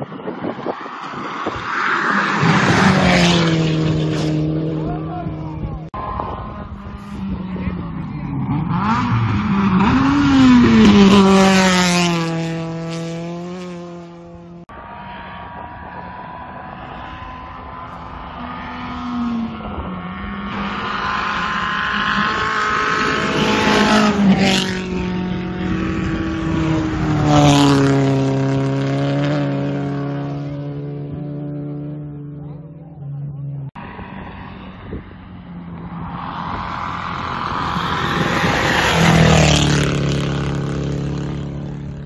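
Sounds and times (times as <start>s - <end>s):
rally car engines passing by: 0.0s - 42.0s.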